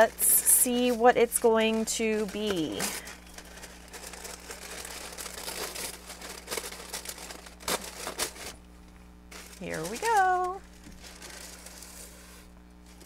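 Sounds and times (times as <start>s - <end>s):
wrapping paper crinkling: 0.0s - 8.6s, 9.3s - 13.0s.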